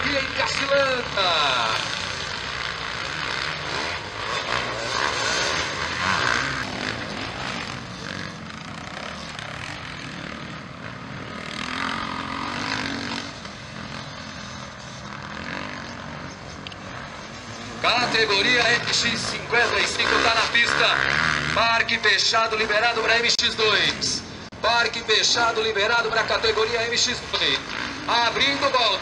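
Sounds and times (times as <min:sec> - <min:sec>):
motocross bike engines revving: 0:00.0 - 0:29.0.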